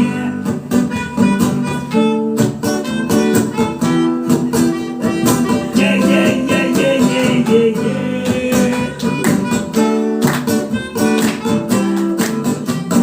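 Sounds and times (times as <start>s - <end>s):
guitar: 0.0s - 13.0s
live reggae band playing: 0.0s - 13.0s.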